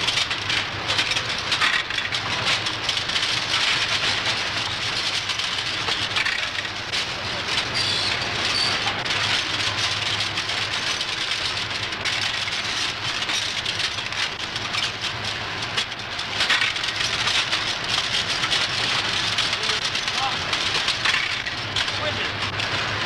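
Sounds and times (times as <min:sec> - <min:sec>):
typesetting machines clattering: 0:00.0 - 0:23.0.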